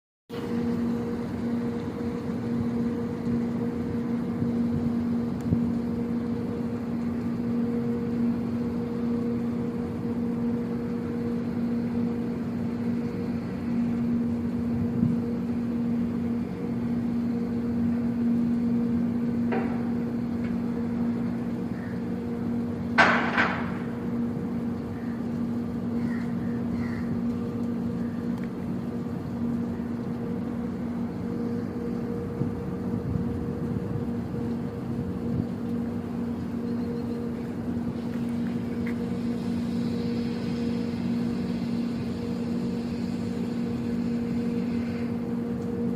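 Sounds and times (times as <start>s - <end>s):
industrial machinery humming: 0.3s - 45.9s.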